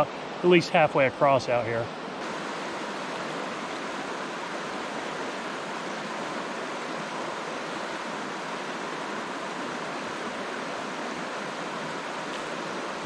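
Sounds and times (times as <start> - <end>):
rocky river rushing: 0.0 - 13.0.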